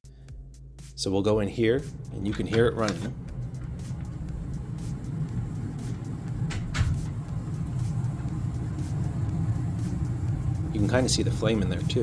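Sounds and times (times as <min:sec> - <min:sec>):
gas furnace rumbling: 0:01.0 - 0:12.0.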